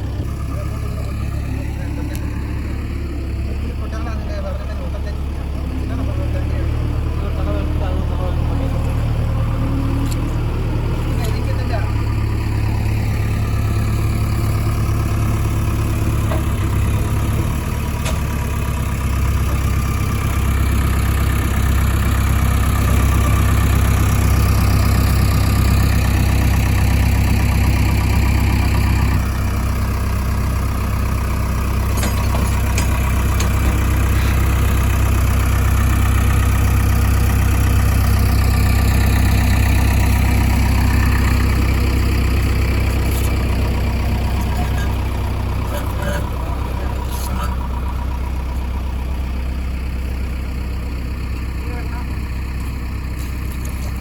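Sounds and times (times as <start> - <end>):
heavy machinery diesel engines: 0.0 - 54.0.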